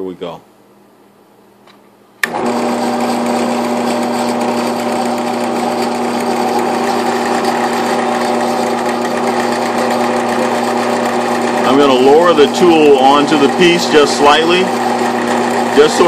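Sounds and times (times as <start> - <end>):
drill press motor humming: 2.2 - 16.0.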